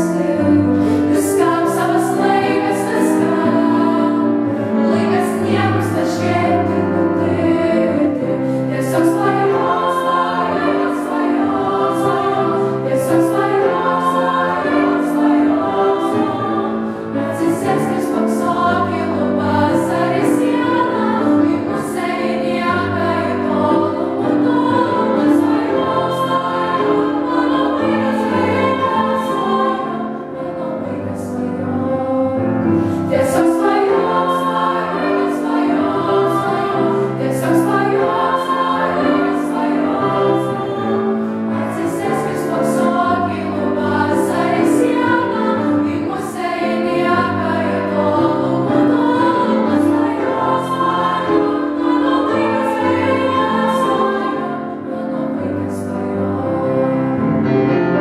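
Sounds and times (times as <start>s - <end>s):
female vocal ensemble singing: 0.0s - 57.4s.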